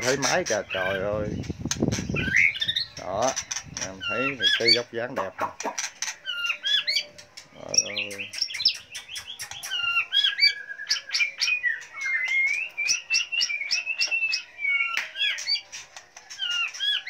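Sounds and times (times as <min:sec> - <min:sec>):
birds singing whistled phrases: 0:00.0 - 0:17.0
sharp clicking bird notes: 0:01.4 - 0:17.0.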